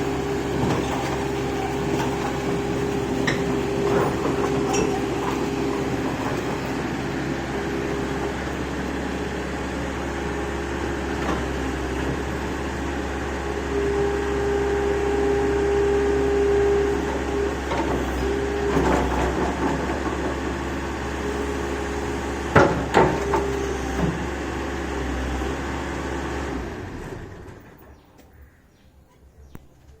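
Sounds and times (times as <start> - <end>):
excavator diesel engine running: 0.0 - 28.4.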